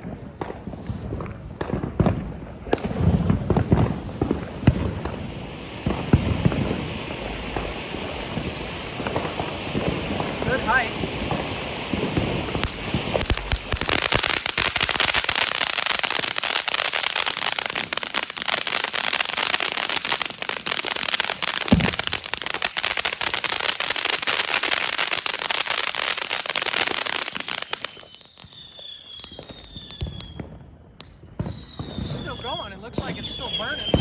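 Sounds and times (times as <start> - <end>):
firework fountain crackling: 0.0 - 34.0.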